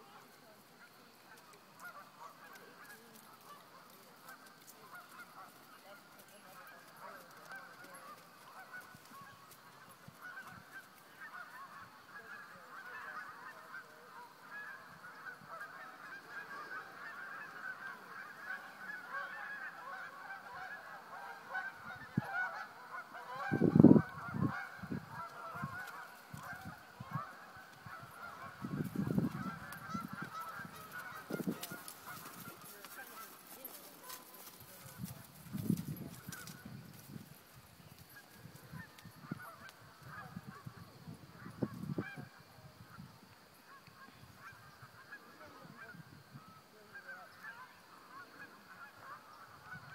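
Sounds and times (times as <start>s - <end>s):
geese honking: 0.7s - 36.8s, 37.9s - 49.9s.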